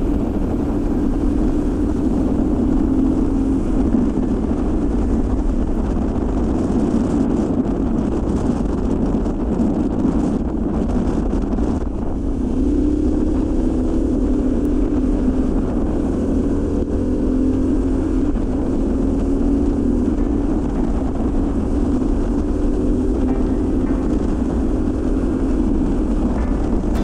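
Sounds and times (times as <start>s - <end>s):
motorcycle engine running: 0.0s - 27.0s
wind rushing over microphone: 0.0s - 27.0s.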